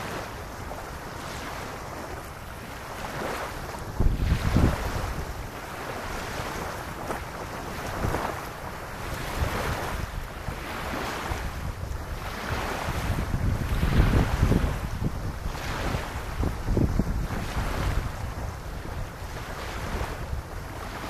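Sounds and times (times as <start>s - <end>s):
small waves lapping on beach: 0.0s - 21.0s
wind buffeting microphone: 0.0s - 21.0s.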